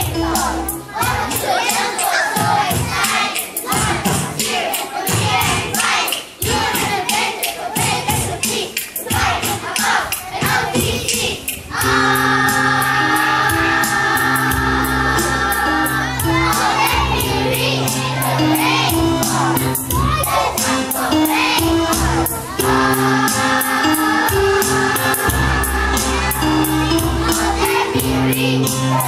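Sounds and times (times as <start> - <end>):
backing music with steady beat: 0.0 - 29.0
children rapping together: 0.0 - 29.0.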